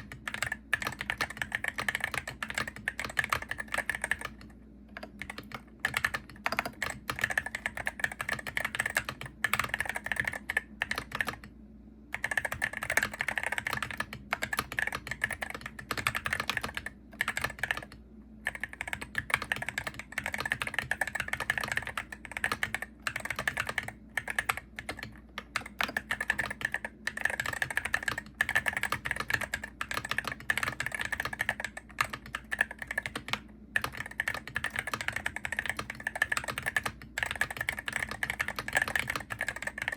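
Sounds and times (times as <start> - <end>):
keyboard typing clicks: 0.0 - 11.5, 12.1 - 39.9.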